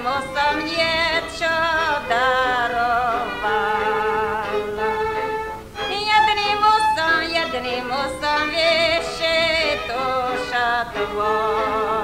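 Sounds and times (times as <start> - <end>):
woman singing folk song: 0.0 - 12.0.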